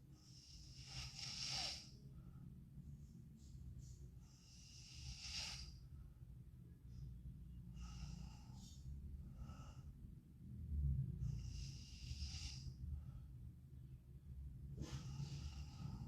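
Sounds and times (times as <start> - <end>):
woman breathing in sleep: 0.0 - 2.8, 3.8 - 6.3, 6.9 - 13.5, 14.7 - 16.0.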